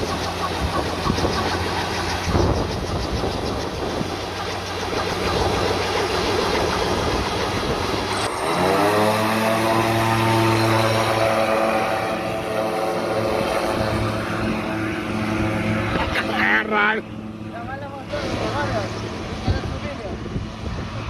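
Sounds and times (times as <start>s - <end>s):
engine clattering and revving: 0.0s - 16.9s.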